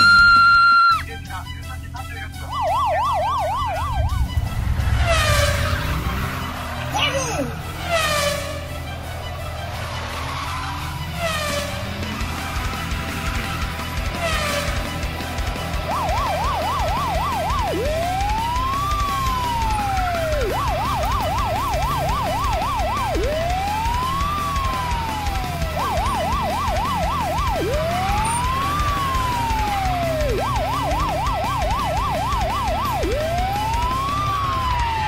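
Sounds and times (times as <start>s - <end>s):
police siren wailing: 0.0s - 35.0s.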